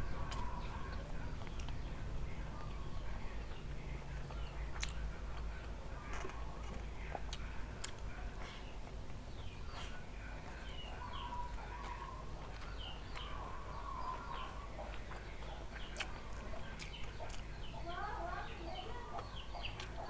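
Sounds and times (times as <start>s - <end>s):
chewing with lip-smacking: 0.0s - 17.8s, 18.9s - 20.0s
birds chirping: 0.0s - 20.0s.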